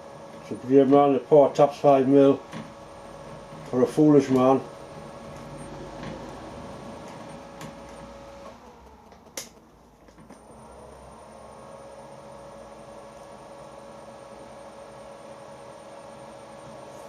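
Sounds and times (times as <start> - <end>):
machine tool motor whine: 0.0 - 17.0.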